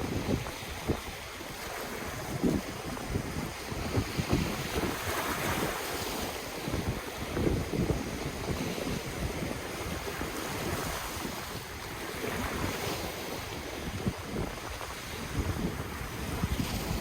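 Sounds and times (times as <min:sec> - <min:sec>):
ocean surf washing on shore: 0:00.0 - 0:17.0
wind buffeting microphone: 0:00.0 - 0:17.0.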